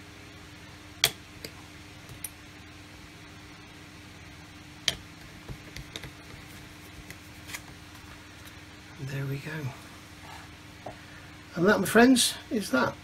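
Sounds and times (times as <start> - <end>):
steady faint hum: 0.0 - 13.0.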